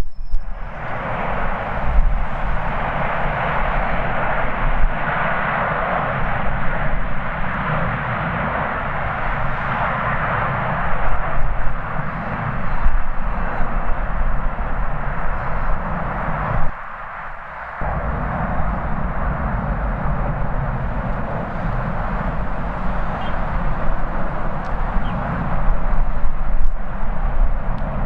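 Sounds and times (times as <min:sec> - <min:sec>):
jet engines at takeoff power: 0:00.0 - 0:28.0
wind buffeting microphone: 0:00.0 - 0:28.0.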